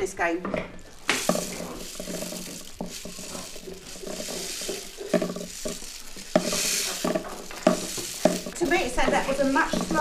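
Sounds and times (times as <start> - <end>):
rain stick beads trickling: 0.0 - 10.0
percussion knocks and rattles: 0.4 - 10.0.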